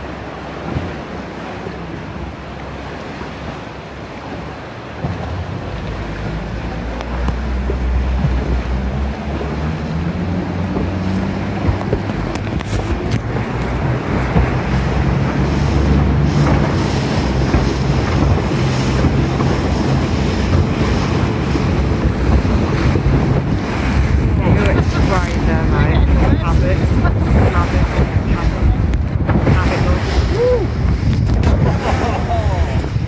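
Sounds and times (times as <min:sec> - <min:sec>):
motorboat engine running: 0:00.0 - 0:33.0
water rushing along hull: 0:00.0 - 0:33.0
wind buffeting microphone: 0:00.0 - 0:33.0.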